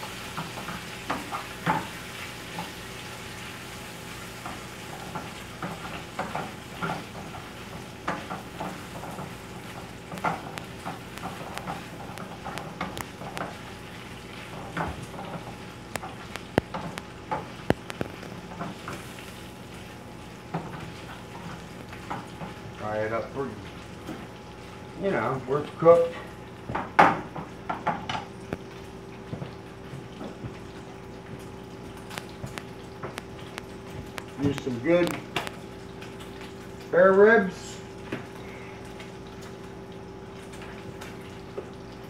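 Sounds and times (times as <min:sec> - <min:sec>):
bacon sizzling in a frying pan: 0:00.0 - 0:42.0.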